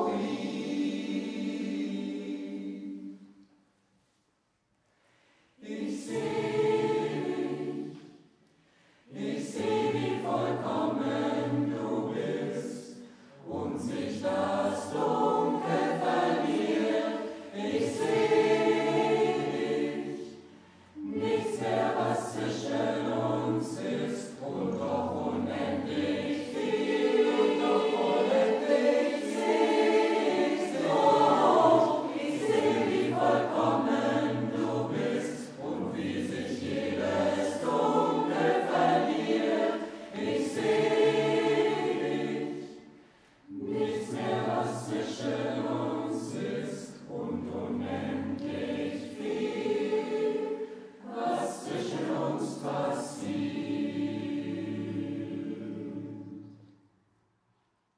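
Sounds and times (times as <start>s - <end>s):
choir singing a cappella: 0.0s - 3.6s, 5.5s - 56.9s.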